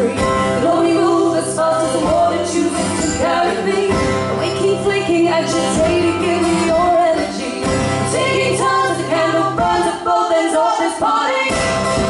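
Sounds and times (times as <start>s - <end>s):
acoustic guitar: 0.0s - 12.0s
mandolin: 0.0s - 12.0s
woman singing: 0.0s - 12.0s.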